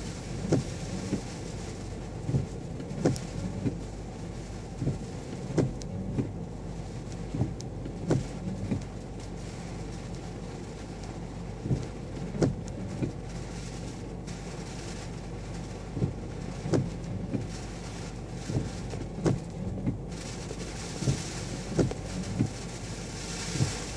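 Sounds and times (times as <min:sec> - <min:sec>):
car cabin low hum: 0:00.0 - 0:23.9
raindrops tapping on car: 0:00.0 - 0:23.9
wind and rain hiss: 0:00.0 - 0:23.9.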